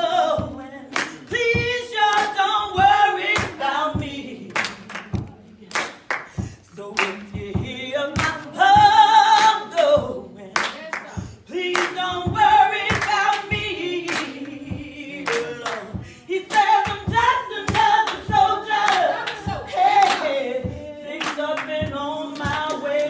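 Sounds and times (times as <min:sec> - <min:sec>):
choir voices: 0:00.0 - 0:23.0
lead singer: 0:00.0 - 0:23.0
steady clapping beat: 0:00.0 - 0:23.0.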